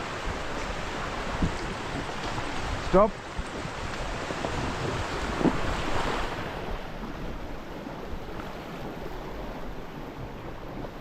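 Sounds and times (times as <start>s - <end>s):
river water rushing around raft: 0.0s - 11.0s.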